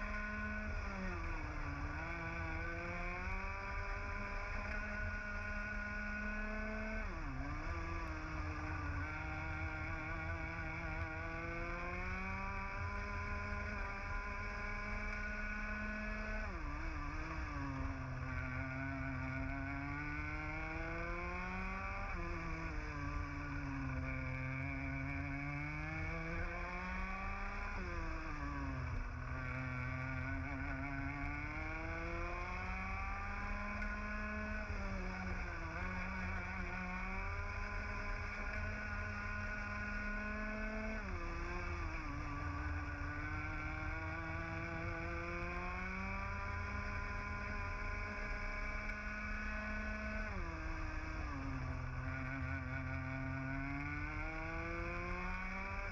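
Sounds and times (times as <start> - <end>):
kart engine revving: 0.0 - 55.9.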